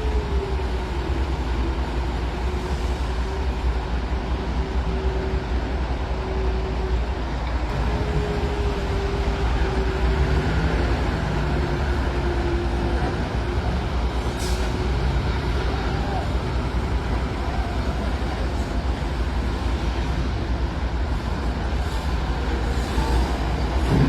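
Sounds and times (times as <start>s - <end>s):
heavy diesel machinery rumbling: 0.0s - 24.0s.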